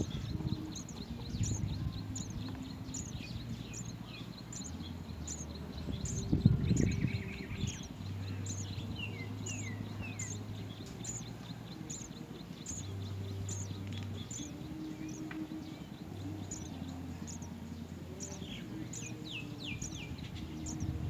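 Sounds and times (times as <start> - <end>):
low steady hum: 0.0 - 21.0
small birds chirping: 0.0 - 21.0.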